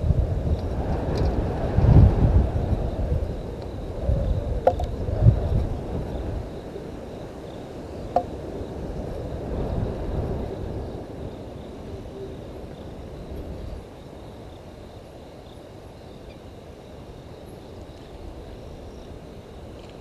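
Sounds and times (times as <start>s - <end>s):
faint insect calls: 0.0s - 20.0s.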